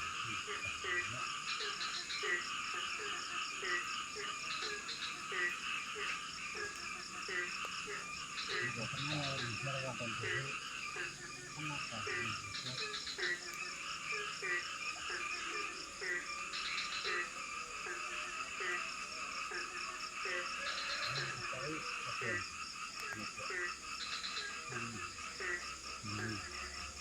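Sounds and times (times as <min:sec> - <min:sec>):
frogs croaking: 0:00.0 - 0:27.0
high insect drone: 0:00.0 - 0:27.0.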